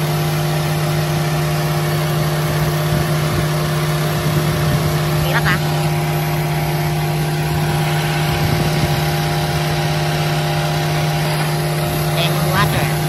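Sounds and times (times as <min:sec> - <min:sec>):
air-conditioning running: 0:00.0 - 0:13.0
car engine idling: 0:00.0 - 0:13.0.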